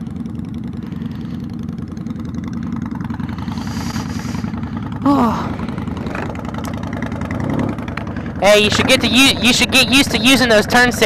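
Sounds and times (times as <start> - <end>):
motorcycle engine near idle: 0.0 - 11.0
second motorcycle idling: 0.0 - 11.0.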